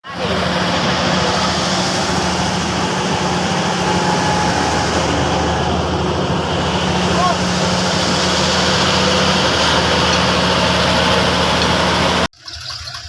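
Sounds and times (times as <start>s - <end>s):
heavy diesel truck engine running: 0.0s - 12.3s.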